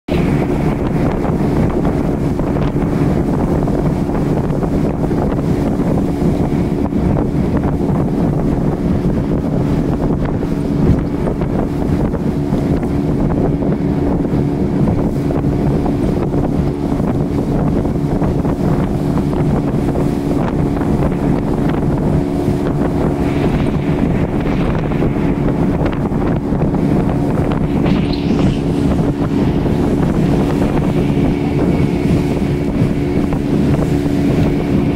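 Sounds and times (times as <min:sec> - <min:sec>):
speedboat engine droning: 0:00.1 - 0:34.9
wind buffeting microphone: 0:00.1 - 0:34.9.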